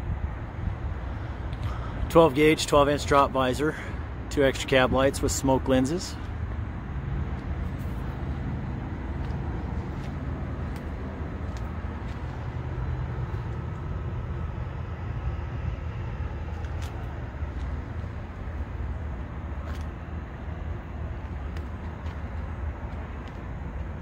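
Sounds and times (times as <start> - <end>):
diesel truck engine idling: 0.2 - 24.0.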